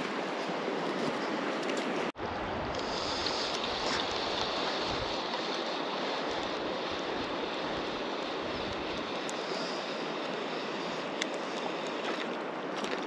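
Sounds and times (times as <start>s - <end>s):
river water rushing: 0.0s - 13.0s
wind rumble on microphone: 0.0s - 13.0s.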